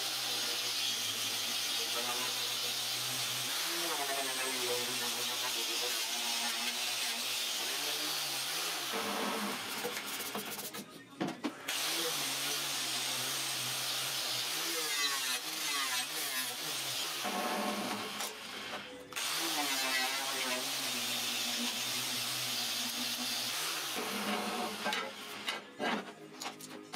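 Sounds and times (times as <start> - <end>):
angle grinder grinding steel: 0.0 - 10.3, 11.7 - 26.2.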